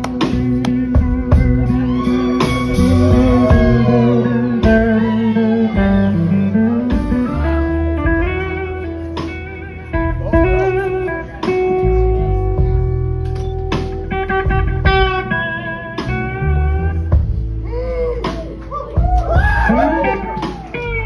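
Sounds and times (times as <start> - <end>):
bass line: 0.0 - 21.0
drums: 0.0 - 21.0
electric guitar lead: 0.0 - 21.0.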